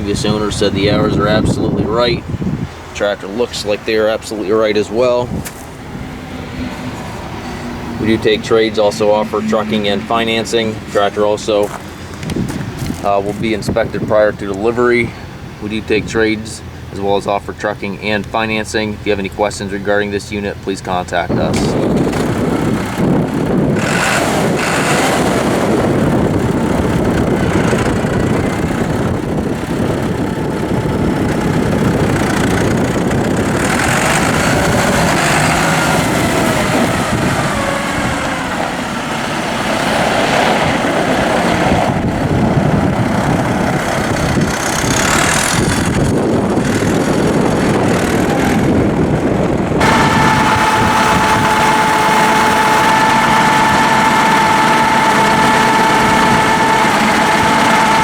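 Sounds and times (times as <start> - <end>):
steady high whine: 0.0 - 39.7, 40.6 - 58.0
diesel engine idling: 0.0 - 58.0.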